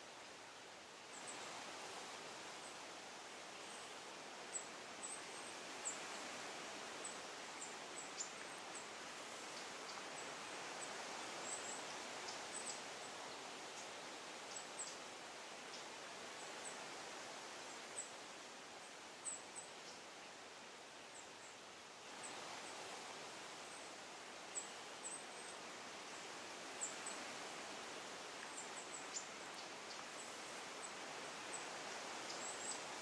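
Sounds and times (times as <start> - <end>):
forest rustling hiss: 0.0 - 33.0.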